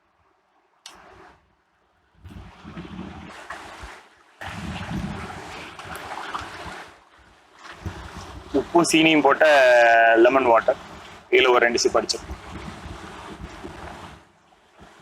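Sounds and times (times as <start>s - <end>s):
waves breaking on shore: 0.9s - 1.5s, 2.1s - 15.0s
wind buffeting microphone: 2.2s - 15.0s.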